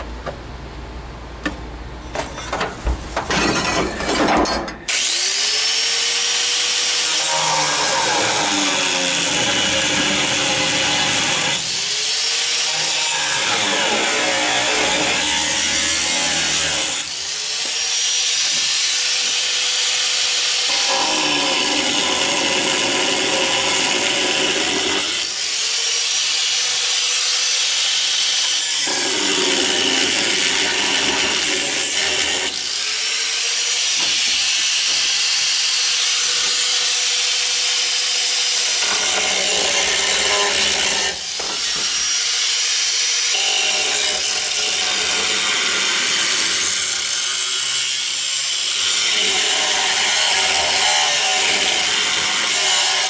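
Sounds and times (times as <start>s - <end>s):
angle grinder cutting sheet metal: 4.8s - 53.0s.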